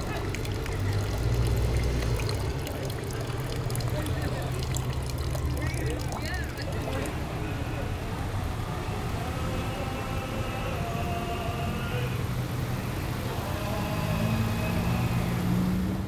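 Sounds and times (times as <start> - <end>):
car engine rumble: 0.0 - 16.0.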